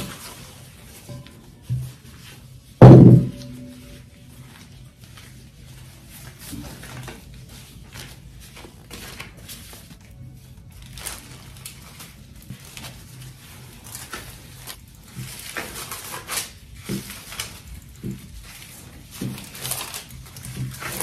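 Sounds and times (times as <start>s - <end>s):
foil crinkling: 0.0s - 21.0s
hands patting dough: 0.0s - 21.0s.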